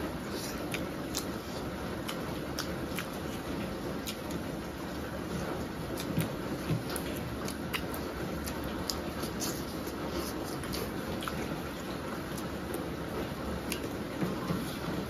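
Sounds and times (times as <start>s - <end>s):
wet chewing: 0.2s - 12.9s, 13.6s - 15.0s.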